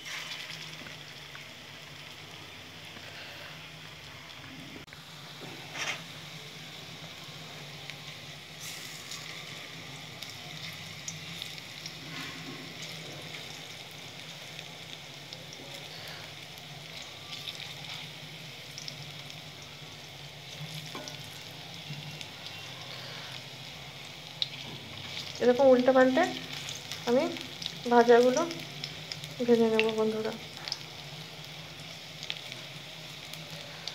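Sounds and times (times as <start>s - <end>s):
fritters deep-frying in oil: 0.0s - 33.9s.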